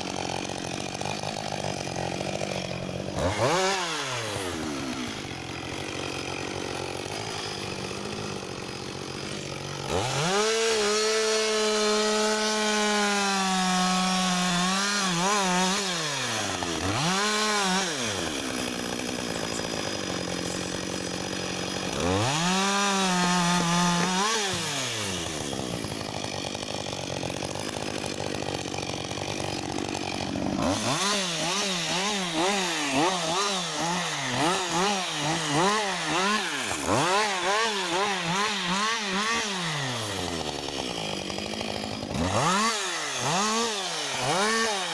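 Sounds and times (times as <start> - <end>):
chainsaw revving and idling: 0.0 - 44.9.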